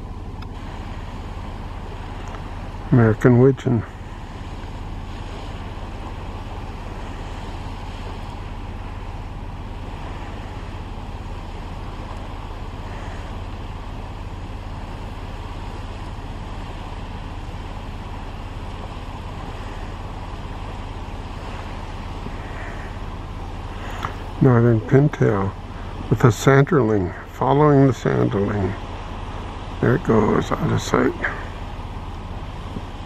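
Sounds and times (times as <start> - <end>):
low rumble: 0.0 - 33.0
even hiss: 0.4 - 33.0.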